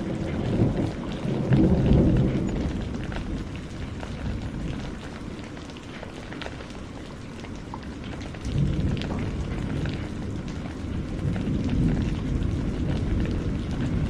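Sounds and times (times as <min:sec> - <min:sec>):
low thunder rumble: 0:00.0 - 0:05.6, 0:07.8 - 0:14.0
raindrops ticking: 0:00.0 - 0:14.0
steady rain: 0:00.0 - 0:14.0.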